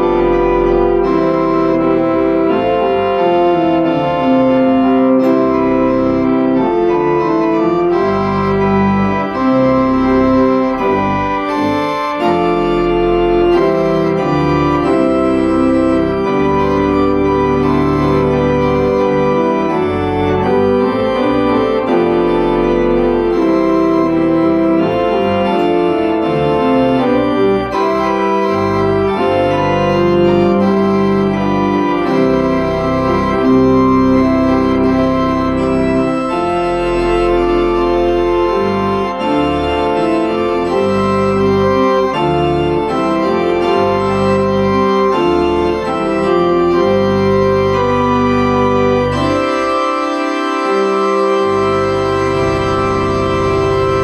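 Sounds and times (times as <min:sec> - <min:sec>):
church organ playing a hymn: 0:00.0 - 0:54.0.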